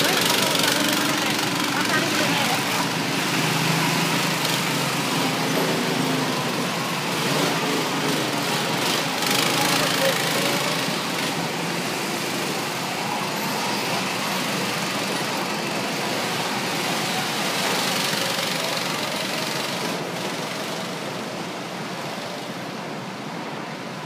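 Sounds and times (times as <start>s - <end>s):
go-kart engines droning: 0.0s - 24.0s.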